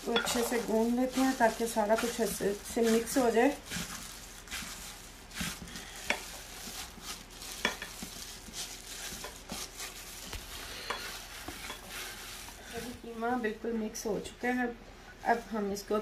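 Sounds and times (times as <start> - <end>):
gloved hand kneading meat: 0.0 - 13.4.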